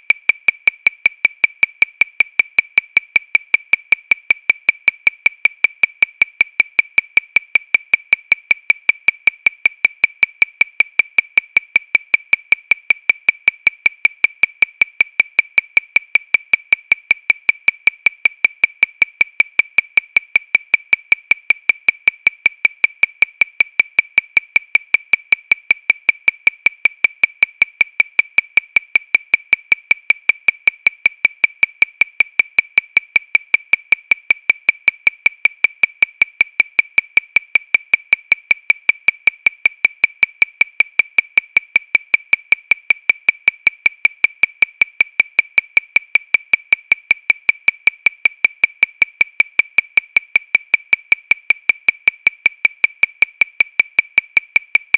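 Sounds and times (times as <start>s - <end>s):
metronome clicking: 0.0s - 54.9s.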